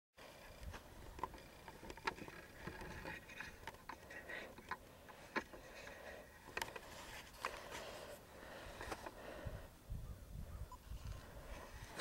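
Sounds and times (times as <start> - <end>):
faint outdoor ambience: 0.2 - 12.0.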